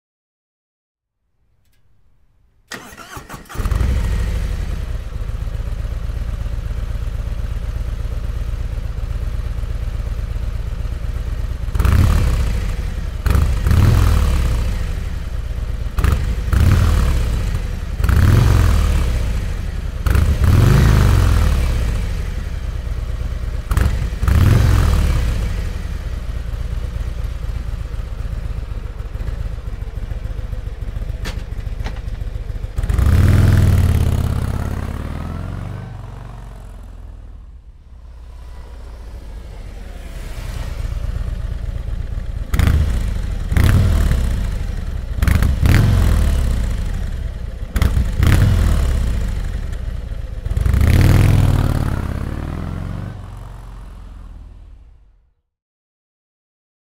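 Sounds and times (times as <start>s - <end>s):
motorcycle engine idling and revving: 2.7s - 55.4s.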